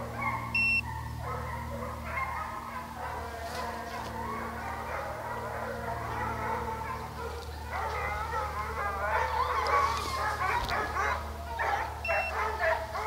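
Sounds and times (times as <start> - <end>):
hounds baying and howling: 0.0 - 13.0.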